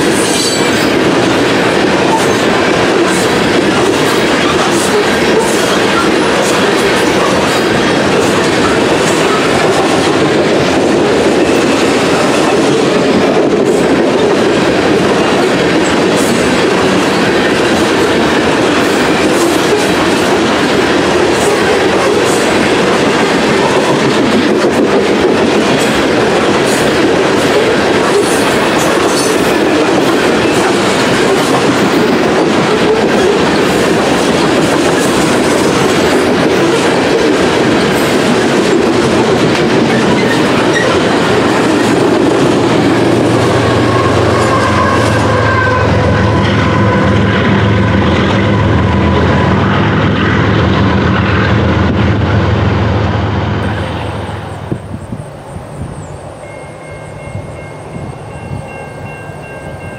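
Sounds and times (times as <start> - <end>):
steel wheels clattering on rails: 0.0 - 52.2
freight train rumbling past: 0.0 - 59.9.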